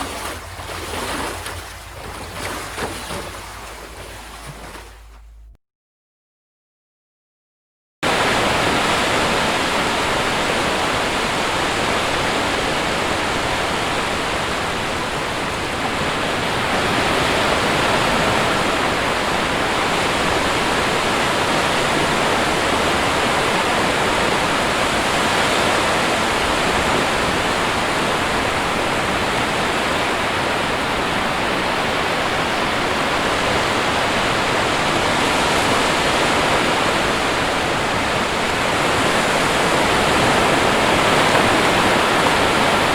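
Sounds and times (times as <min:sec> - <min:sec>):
waves breaking: 0:00.0 - 0:05.6, 0:08.1 - 0:42.9.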